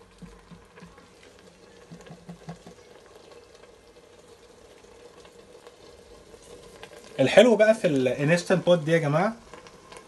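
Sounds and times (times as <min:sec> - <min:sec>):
onions sizzling: 0:00.0 - 0:10.0.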